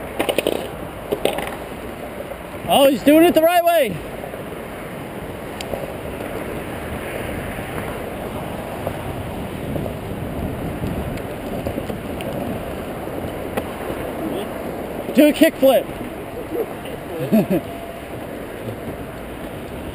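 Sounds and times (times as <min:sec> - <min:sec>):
skateboard wheels rolling on pavement: 0:00.0 - 0:19.9.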